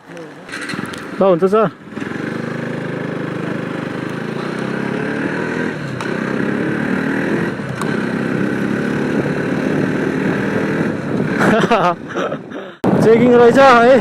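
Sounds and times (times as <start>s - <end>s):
motorcycle engine accelerating: 0.5s - 12.8s.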